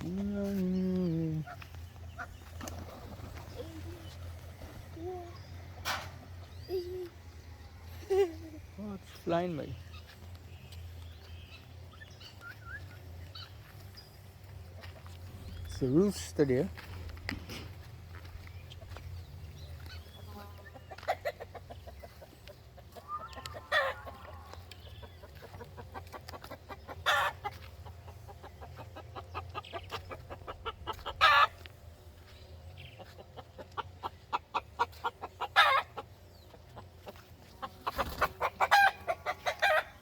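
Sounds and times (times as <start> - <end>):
chickens squawking: 0.0 - 16.1, 17.4 - 40.0
chickens clucking: 0.0 - 40.0.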